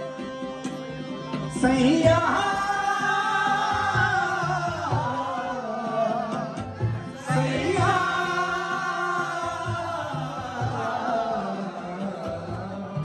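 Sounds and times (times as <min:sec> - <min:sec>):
harmonium: 0:00.0 - 0:13.0
man singing into a microphone: 0:01.3 - 0:13.0.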